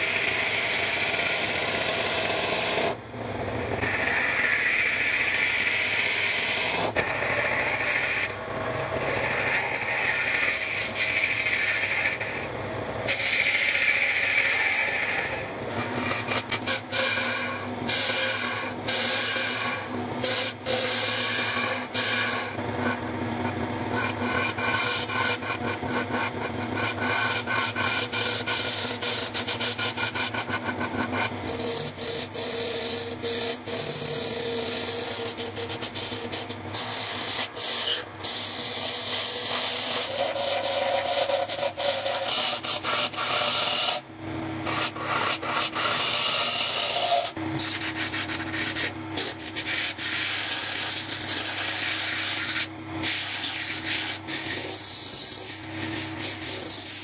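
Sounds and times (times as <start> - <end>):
gouge scraping turning wood: 0.0 - 3.0, 3.8 - 12.4, 13.1 - 57.0
wood lathe motor running: 0.0 - 57.0
sandpaper rubbing spinning wood: 3.8 - 8.3, 9.0 - 12.4, 13.1 - 57.0.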